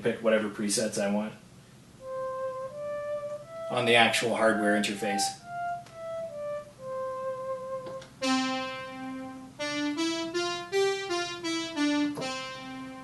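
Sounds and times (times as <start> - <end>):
synthesizer keyboard phrase: 2.0 - 13.0.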